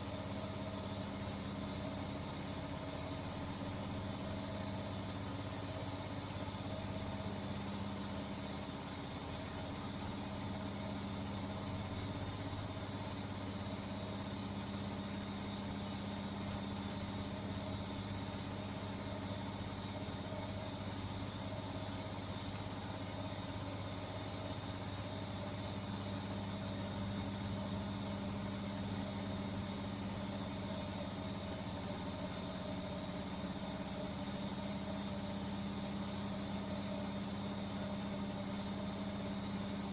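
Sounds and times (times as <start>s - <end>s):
washing machine spinning hum: 0.0s - 39.9s.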